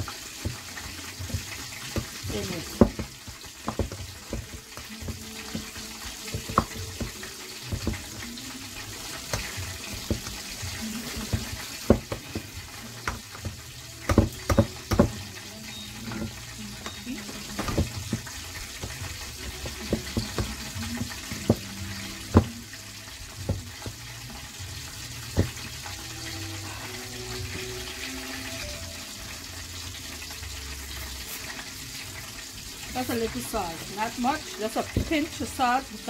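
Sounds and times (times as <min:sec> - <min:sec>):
chicken sizzling in oil: 0:00.0 - 0:36.0.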